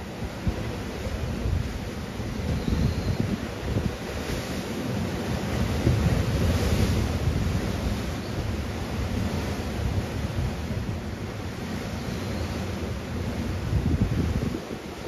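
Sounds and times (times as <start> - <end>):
sea surf: 0.0 - 15.0
wind noise on microphone: 0.0 - 15.0.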